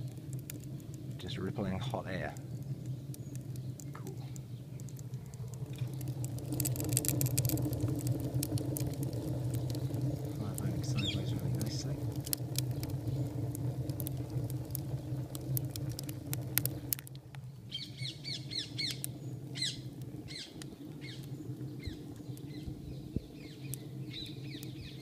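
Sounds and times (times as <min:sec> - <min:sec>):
birds chirping: 0:00.0 - 0:25.0
low steady hum: 0:00.0 - 0:25.0
wood fire crackling: 0:00.0 - 0:25.0.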